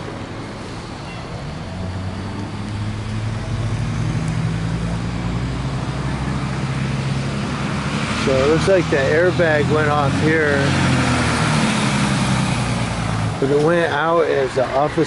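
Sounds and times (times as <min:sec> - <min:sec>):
street traffic: 0:00.0 - 0:15.0
vehicle engine idling: 0:00.0 - 0:15.0.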